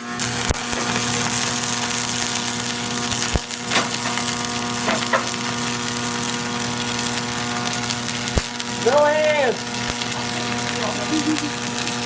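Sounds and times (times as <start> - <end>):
sharp welding pops: 0.0 - 12.0
welding arc crackling hiss: 0.0 - 12.0.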